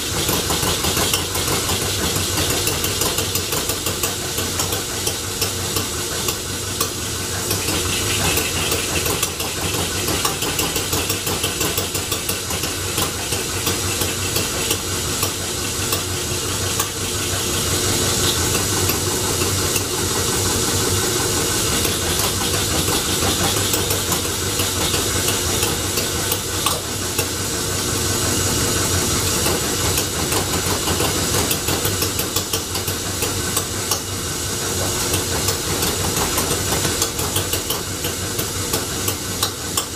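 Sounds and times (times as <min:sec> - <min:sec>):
engine mechanical clatter with hiss: 0:00.0 - 0:39.9.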